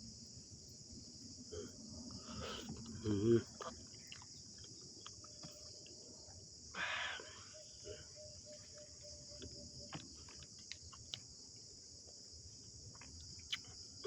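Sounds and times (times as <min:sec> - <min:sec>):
chorus of crickets: 0:00.0 - 0:14.0.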